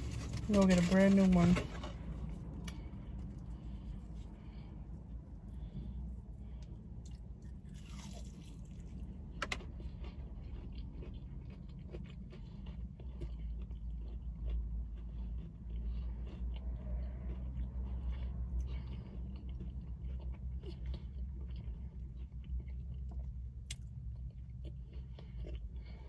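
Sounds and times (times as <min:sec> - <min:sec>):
crispy food crunch: 0:00.0 - 0:26.0
wet chewing sounds: 0:02.2 - 0:26.0.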